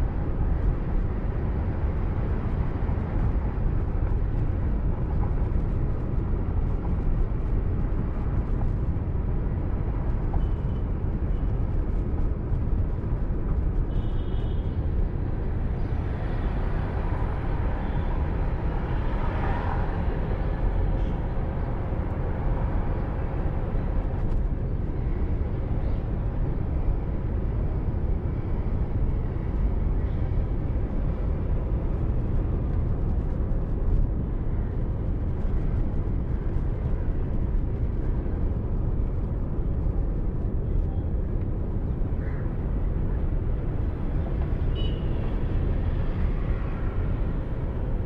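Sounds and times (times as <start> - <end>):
car road and engine noise: 0.0 - 48.0.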